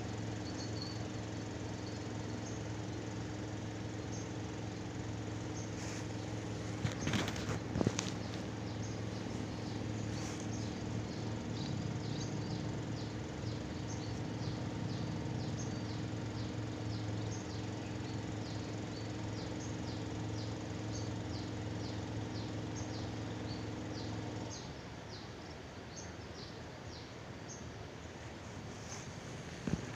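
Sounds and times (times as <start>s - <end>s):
low motor hum: 0.0s - 29.9s.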